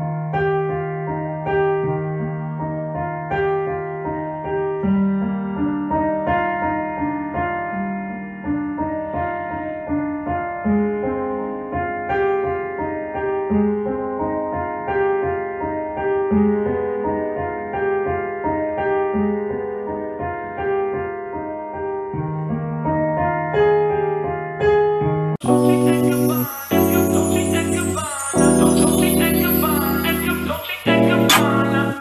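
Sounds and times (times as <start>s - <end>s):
slow solo piano: 0.0s - 32.0s.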